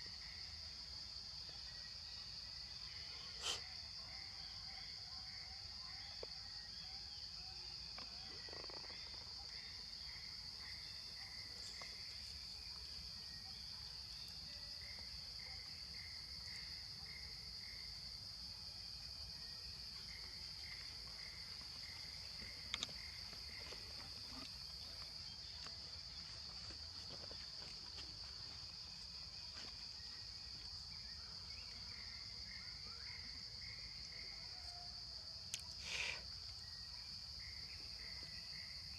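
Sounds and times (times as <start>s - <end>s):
insect chirps: 0.0s - 38.9s
insects droning: 0.0s - 38.9s.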